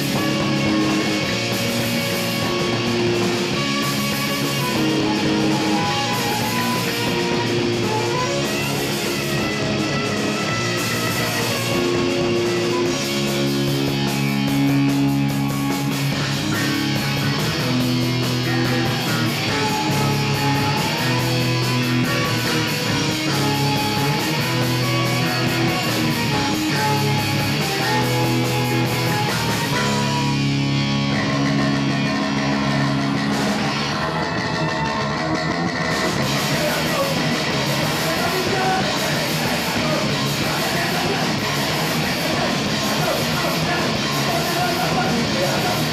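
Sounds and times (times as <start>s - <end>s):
drum kit: 0.0s - 45.9s
electric guitar chords: 0.0s - 45.9s
live rock band playing: 0.0s - 45.9s.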